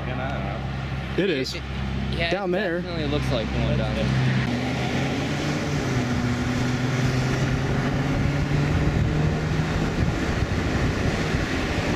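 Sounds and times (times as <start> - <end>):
road rushing noise: 0.0 - 11.9
vehicle engine humming: 0.0 - 11.9.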